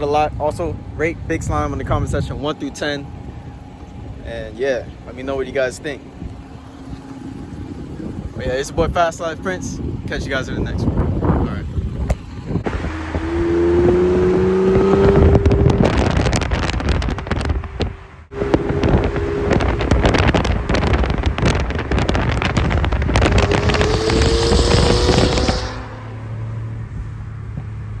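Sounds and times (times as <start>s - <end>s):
car exhaust accelerating with crackles: 0.0s - 28.0s.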